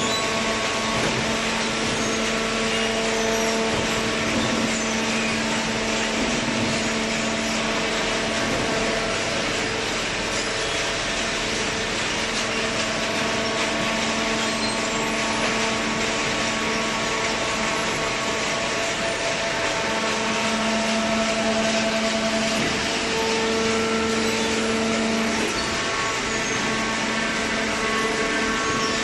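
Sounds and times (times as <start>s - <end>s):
baler machine hum: 0.0s - 29.0s.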